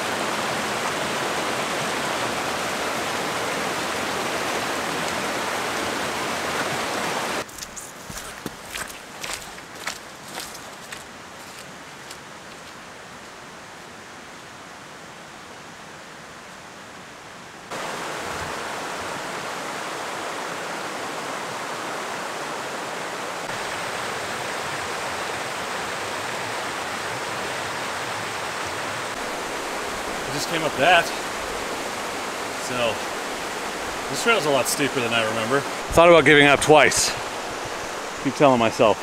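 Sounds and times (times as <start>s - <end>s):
creek water rushing over rocks: 0.0s - 15.8s, 17.7s - 39.0s.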